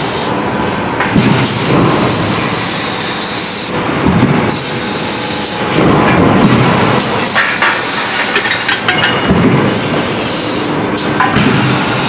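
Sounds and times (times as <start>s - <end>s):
forging press rumble with hiss: 0.0s - 12.0s.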